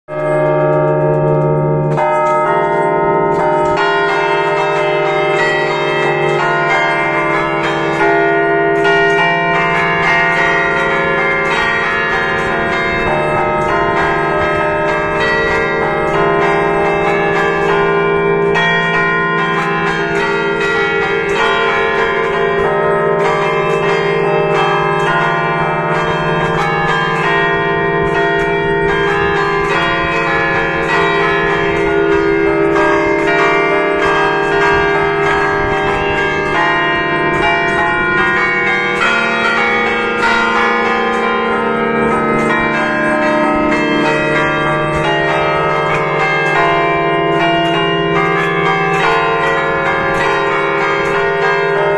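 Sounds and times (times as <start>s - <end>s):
church bells ringing melody: 0.0s - 51.9s.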